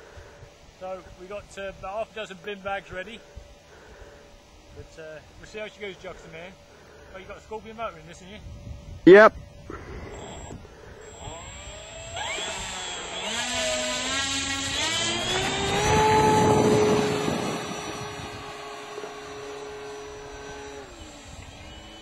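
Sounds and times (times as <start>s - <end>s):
electric motor and propeller whine: 3.2s - 22.0s.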